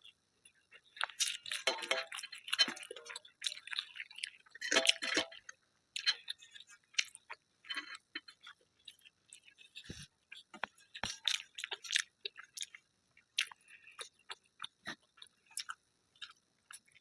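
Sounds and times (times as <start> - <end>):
chewing food: 0.0 - 17.0.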